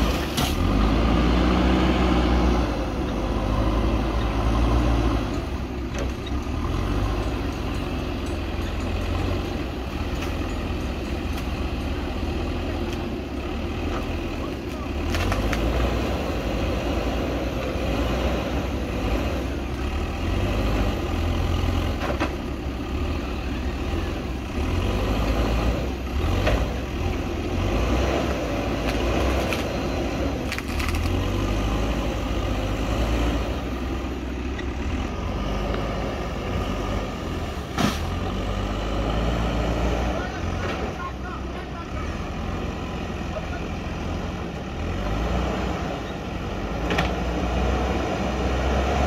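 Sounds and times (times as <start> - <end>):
diesel engine running under load: 0.0 - 49.0.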